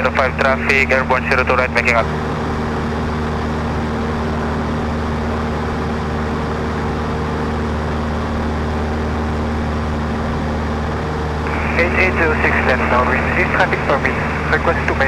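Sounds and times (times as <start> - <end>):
aircraft engine and propeller drone: 0.0 - 15.0.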